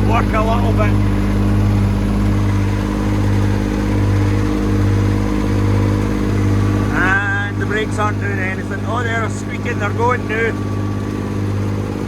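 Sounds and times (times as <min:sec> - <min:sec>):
feed wagon working: 0:00.0 - 0:12.0
tractor diesel engine running: 0:00.0 - 0:12.0.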